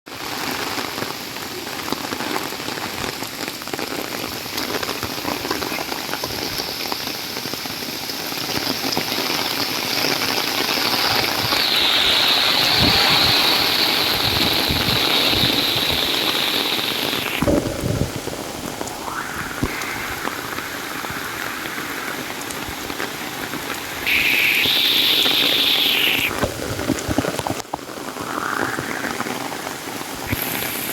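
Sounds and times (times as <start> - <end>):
torrential rain pouring: 0.1 - 30.9.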